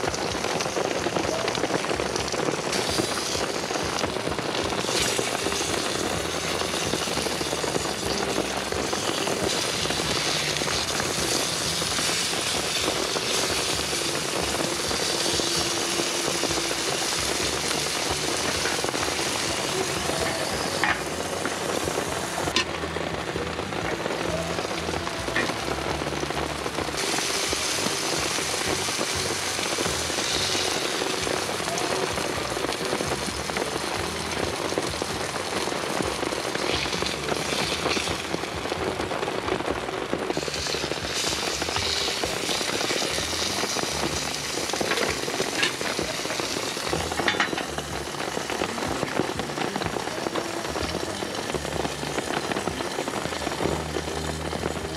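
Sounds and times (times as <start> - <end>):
burger patties sizzling on griddle: 0.0 - 54.9
rain: 0.0 - 54.9.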